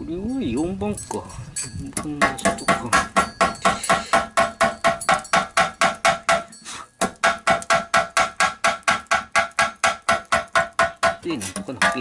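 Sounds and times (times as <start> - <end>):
hammer striking metal pipe: 2.0 - 12.0.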